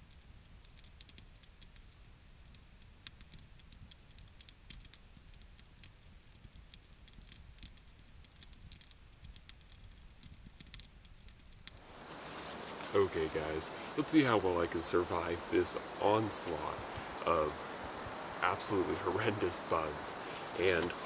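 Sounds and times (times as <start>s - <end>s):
fire pops and snaps: 0.0s - 21.0s
wood fire crackling: 0.0s - 21.0s.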